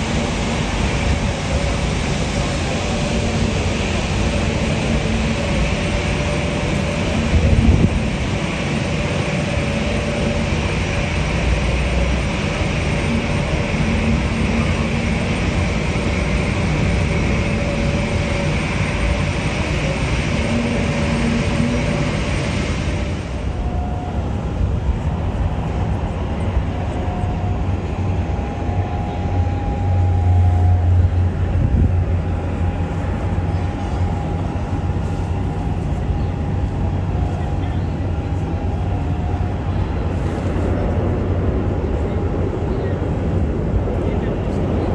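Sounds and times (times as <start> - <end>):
faint steady whine: 0.0 - 44.9
jet engines running: 0.0 - 44.9.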